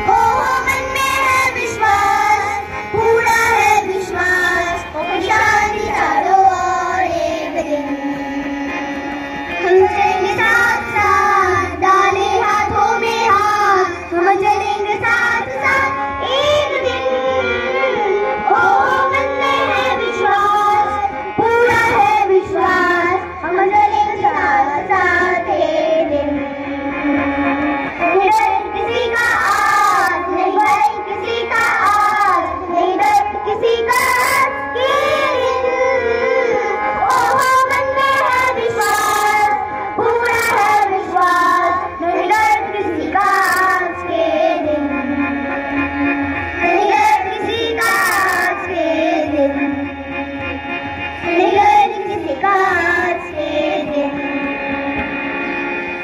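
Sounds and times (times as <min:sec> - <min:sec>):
children singing: 0:00.0 - 0:08.9, 0:09.6 - 0:26.4, 0:28.0 - 0:45.4, 0:46.6 - 0:49.8, 0:51.2 - 0:55.3
musical accompaniment: 0:00.0 - 0:56.0.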